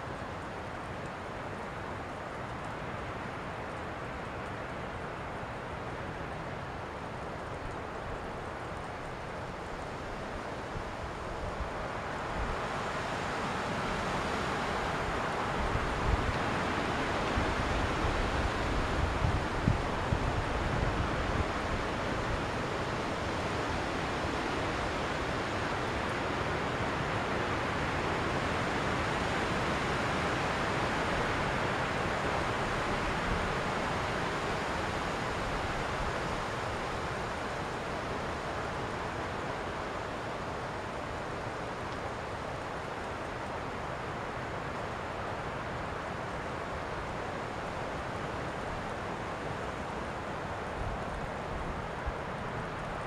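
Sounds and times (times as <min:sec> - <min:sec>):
wind rushing through trees: 0:00.0 - 0:53.0.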